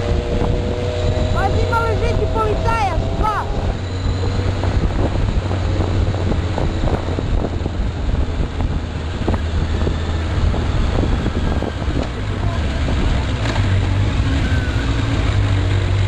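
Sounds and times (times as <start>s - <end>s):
motorcycle engine drone: 0.0s - 16.0s
wind buffeting microphone: 0.0s - 16.0s.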